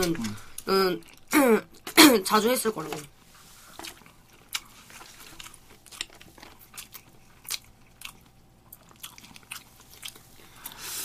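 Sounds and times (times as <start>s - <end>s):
people chewing: 0.0s - 2.1s, 3.3s - 11.0s.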